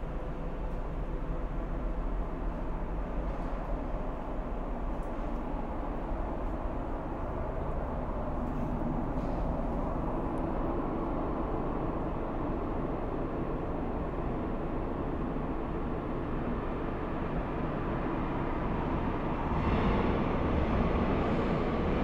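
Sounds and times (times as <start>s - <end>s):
train car rumble: 0.0s - 22.0s.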